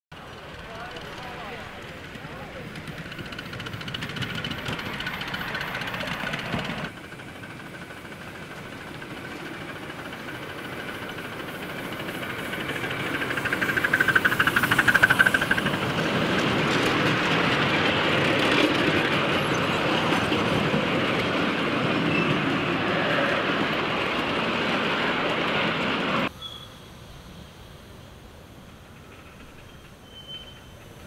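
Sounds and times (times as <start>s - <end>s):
wheels clicking on rails: 0.1s - 26.3s
miniature train passing: 0.1s - 31.0s.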